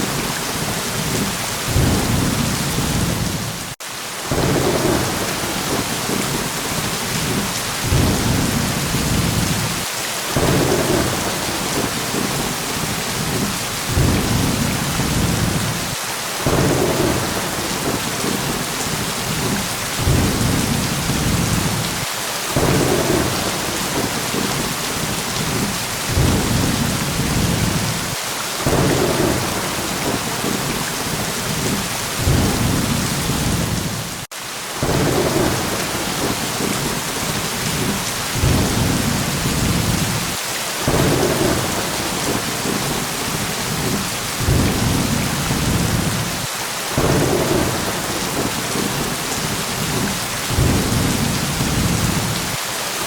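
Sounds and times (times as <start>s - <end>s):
heavy rain: 0.0s - 53.0s
rolling thunder: 1.0s - 3.7s, 4.3s - 9.8s, 10.4s - 37.0s, 37.6s - 52.6s.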